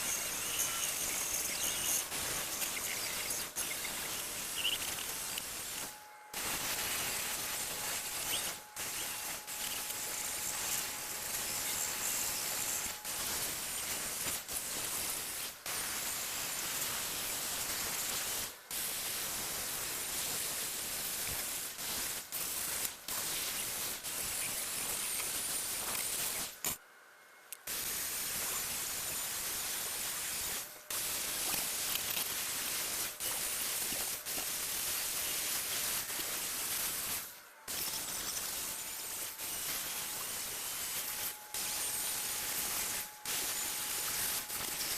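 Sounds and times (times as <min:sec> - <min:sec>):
spray nozzle hissing: 0:00.0 - 0:26.8, 0:27.7 - 0:44.9.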